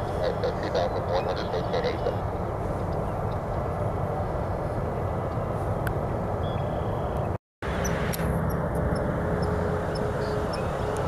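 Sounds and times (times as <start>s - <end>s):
faint steady engine tone: 0.0s - 11.0s
jet engines distant rumble: 0.0s - 11.0s.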